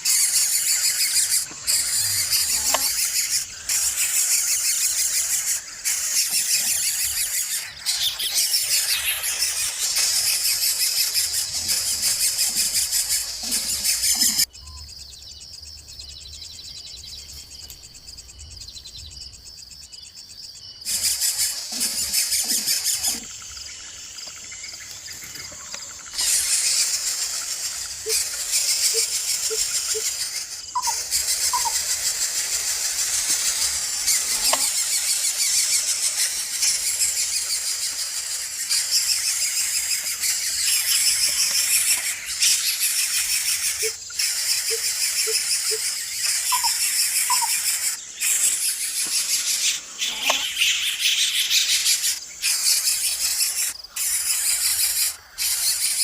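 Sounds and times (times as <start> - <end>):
nestlings begging squeals: 0.0 - 14.5, 20.8 - 56.0.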